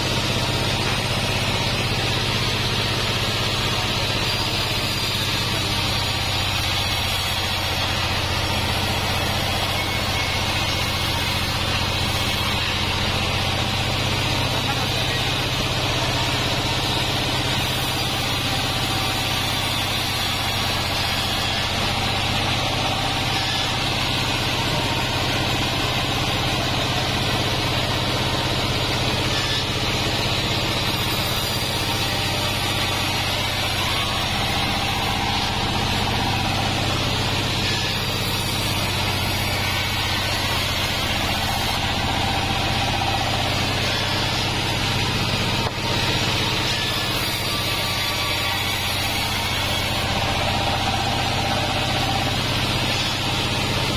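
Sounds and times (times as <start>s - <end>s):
band saw machine hum: 0.0s - 53.9s
saw blade cutting log: 0.0s - 53.9s.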